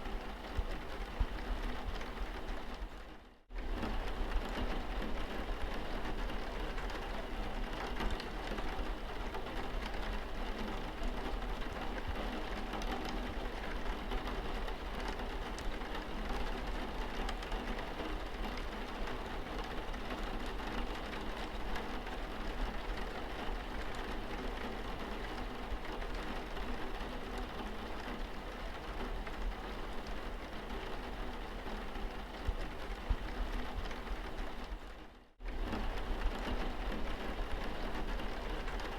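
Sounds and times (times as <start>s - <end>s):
rain on car windscreen: 0.0s - 38.9s.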